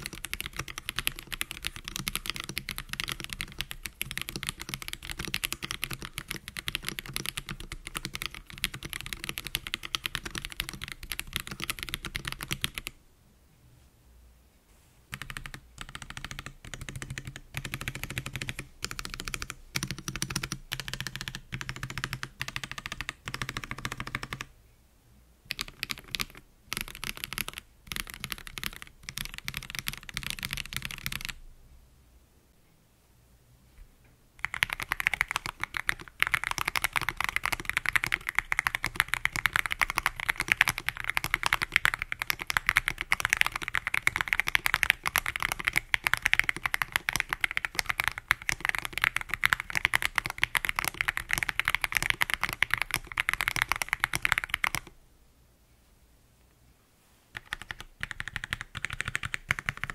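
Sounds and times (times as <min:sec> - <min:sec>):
typing on mechanical keyboard: 0:00.0 - 0:13.0, 0:15.1 - 0:24.5, 0:25.5 - 0:31.4, 0:34.4 - 0:54.9, 0:57.4 - 0:59.9.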